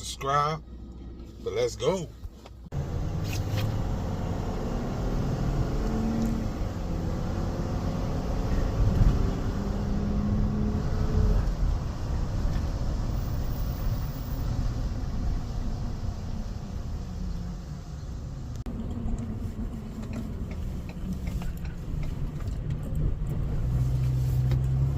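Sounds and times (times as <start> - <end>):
truck engine and road noise: 0.0 - 24.9.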